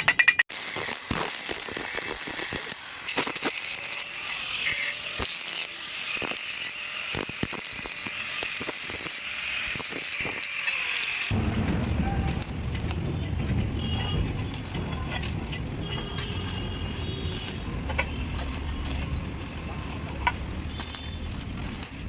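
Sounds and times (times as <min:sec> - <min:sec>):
arc welding hiss and crackle: 0:00.5 - 0:11.3, 0:11.9 - 0:13.1, 0:14.5 - 0:14.8, 0:16.2 - 0:22.0.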